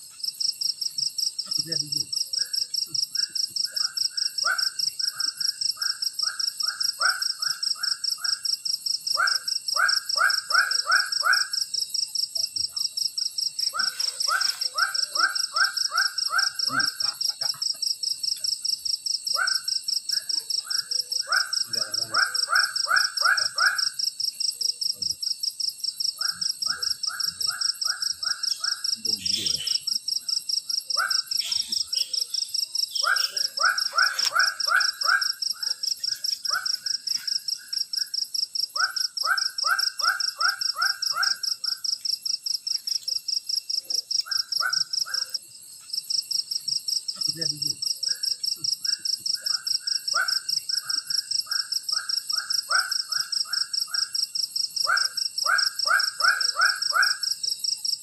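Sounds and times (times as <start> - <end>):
insects buzzing: 0.0 - 58.0
insects whining tones: 0.0 - 58.0.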